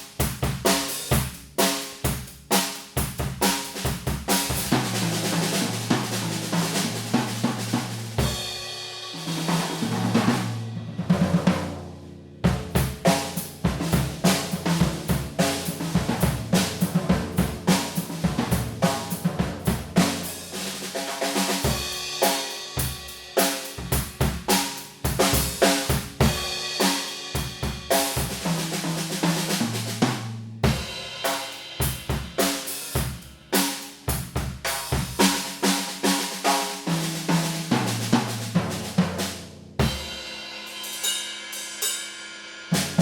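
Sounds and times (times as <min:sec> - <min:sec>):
drum kit groove with fills: 0:00.0 - 0:43.0.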